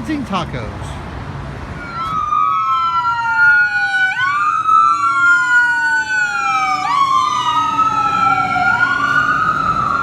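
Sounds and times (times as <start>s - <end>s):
emergency vehicle sirens: 1.6s - 10.0s.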